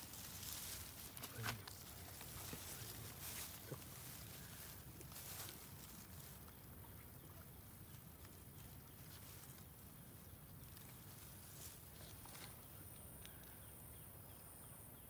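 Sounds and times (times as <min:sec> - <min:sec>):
leaves rustling and crackling: 0:00.0 - 0:13.5.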